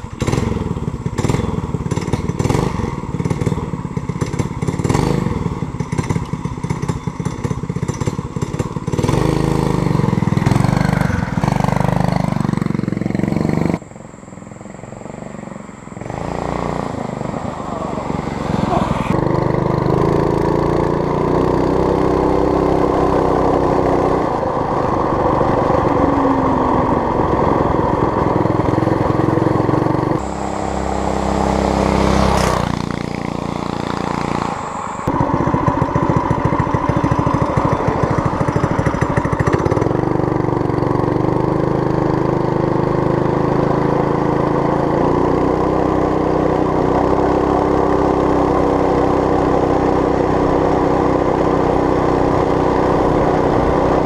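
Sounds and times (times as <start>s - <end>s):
mini bike engine running: 0.0s - 54.0s.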